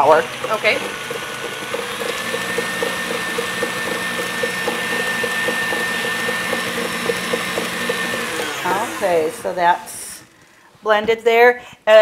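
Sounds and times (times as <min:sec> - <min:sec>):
electric mixer running: 0:00.0 - 0:10.8.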